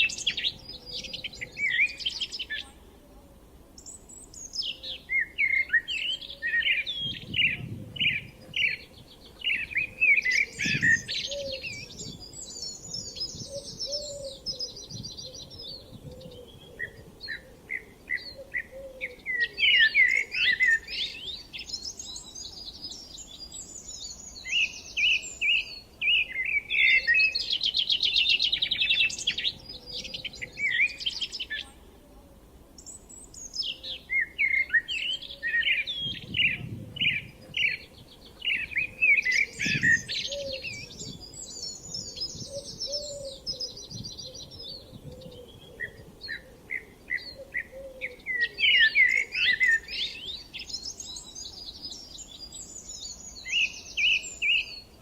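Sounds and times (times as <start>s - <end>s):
small songbirds singing: 0.0s - 2.9s, 3.8s - 32.0s, 32.8s - 55.0s.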